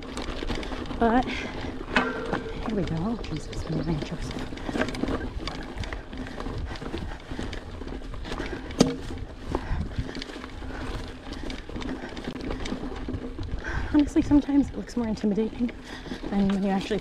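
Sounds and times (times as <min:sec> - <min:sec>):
bike rattling and knocking: 0:00.0 - 0:17.0
tyres crunching over stones: 0:00.0 - 0:17.0.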